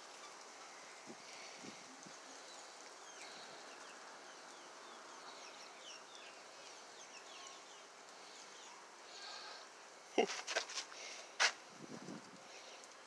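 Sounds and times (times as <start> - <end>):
small birds chirping: 0.0 - 11.4
steady hiss: 0.0 - 13.0.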